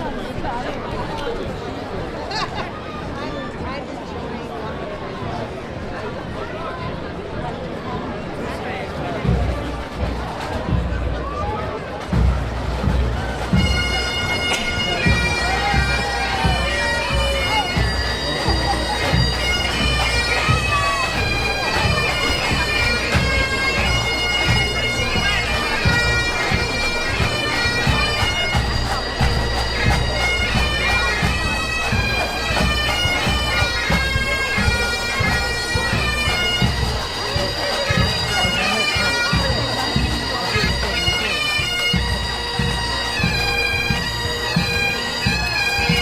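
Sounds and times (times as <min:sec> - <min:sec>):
bagpipes playing a march: 0:08.9 - 0:46.0.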